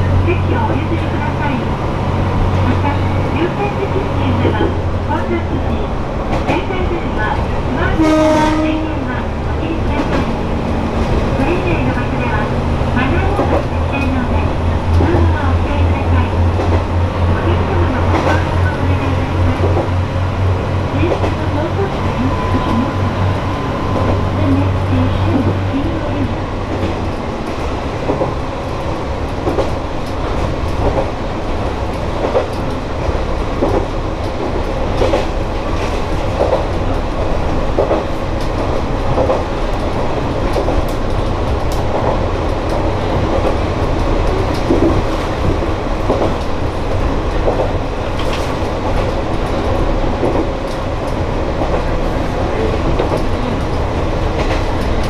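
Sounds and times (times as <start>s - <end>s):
diesel railcar running: 0.0s - 55.0s.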